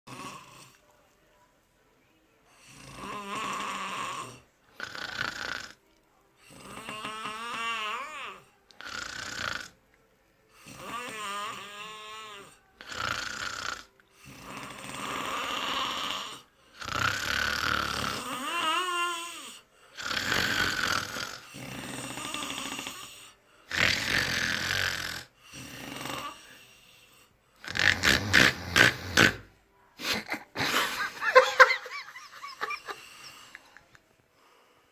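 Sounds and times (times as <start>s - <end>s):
person snoring: 0.1s - 0.8s, 2.6s - 5.8s, 6.5s - 9.8s, 10.6s - 29.5s, 30.2s - 33.8s.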